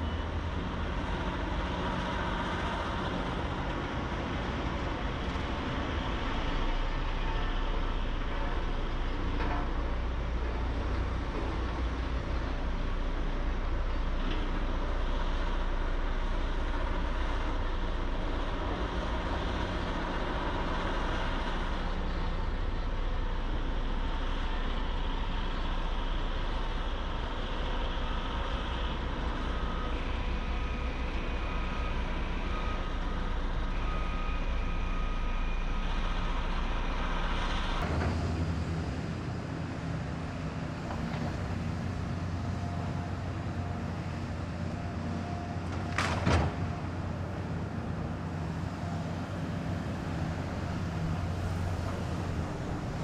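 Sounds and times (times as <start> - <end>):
construction machine engines running: 0.0 - 53.0.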